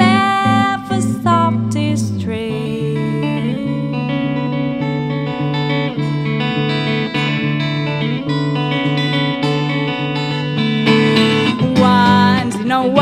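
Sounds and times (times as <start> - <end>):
electric guitar through amplifier: 0.0 - 13.0.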